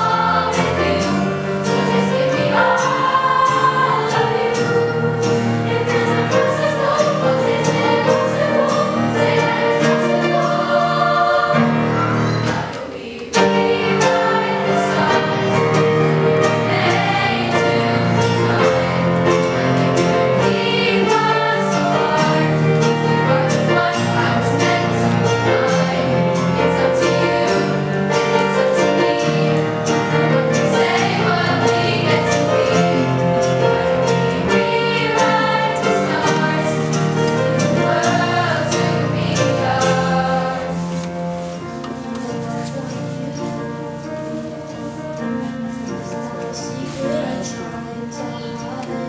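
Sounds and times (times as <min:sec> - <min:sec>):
children's chorus singing: 0:00.0 - 0:49.0.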